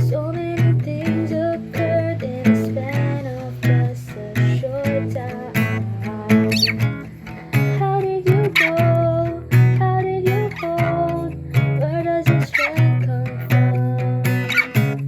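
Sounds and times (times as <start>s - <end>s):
person singing: 0.0s - 7.0s, 7.6s - 14.9s
acoustic guitar strumming: 0.0s - 15.0s.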